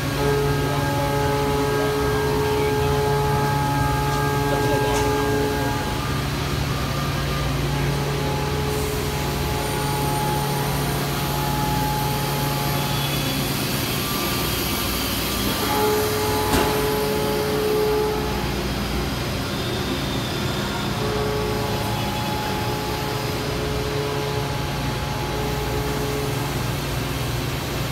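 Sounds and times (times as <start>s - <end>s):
machining center humming: 0.0s - 27.9s.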